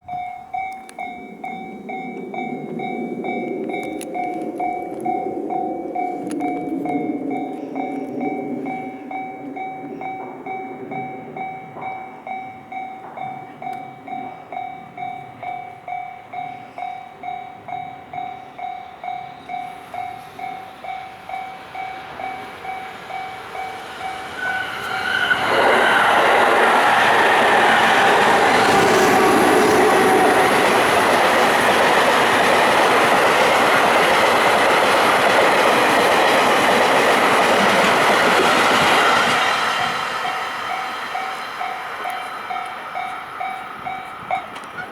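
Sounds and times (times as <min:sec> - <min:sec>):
freight train passing: 0:00.0 - 0:44.9
level crossing warning bell: 0:00.0 - 0:44.9
train wheels clattering: 0:00.0 - 0:44.9.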